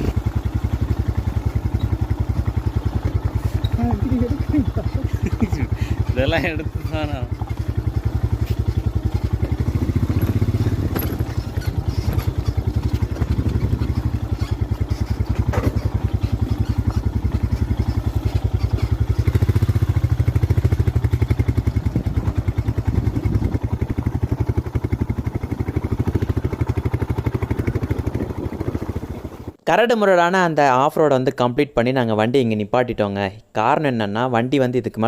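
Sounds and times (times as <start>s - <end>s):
motorcycle engine running: 0.0s - 29.6s.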